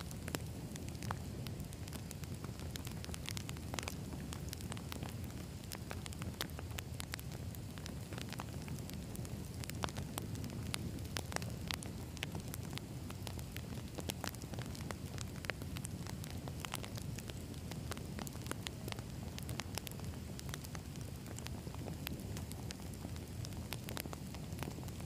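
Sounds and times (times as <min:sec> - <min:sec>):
low rush of flames: 0:00.0 - 0:25.0
wood crackling and popping: 0:00.0 - 0:25.0.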